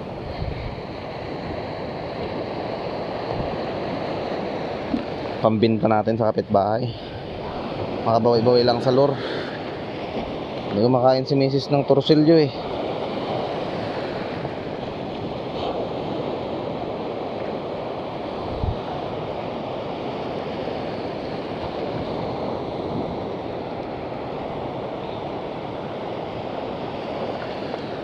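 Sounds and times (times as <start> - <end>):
wind on microphone: 0.0 - 6.1, 6.8 - 28.0
sea waves on shore: 0.0 - 28.0.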